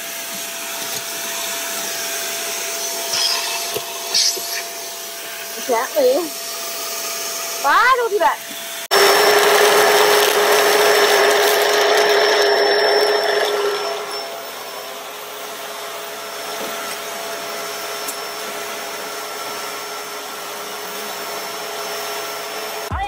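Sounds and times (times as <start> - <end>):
vacuum cleaner motor whining: 0.0 - 23.0.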